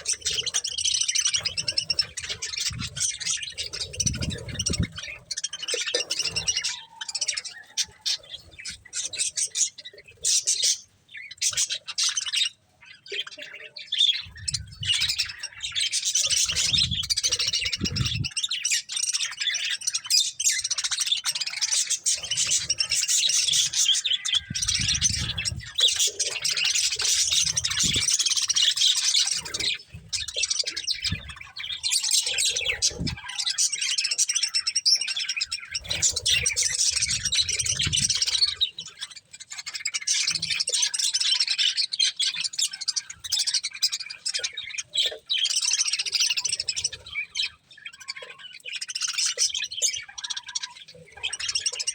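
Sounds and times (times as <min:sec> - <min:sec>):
budgerigars chattering and chirping: 0:00.0 - 0:51.9.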